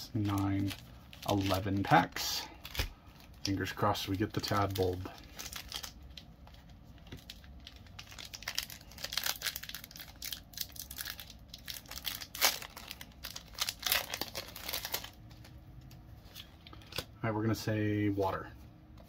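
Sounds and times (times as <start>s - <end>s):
foil wrapper crinkling and tearing: 0.1s - 15.6s.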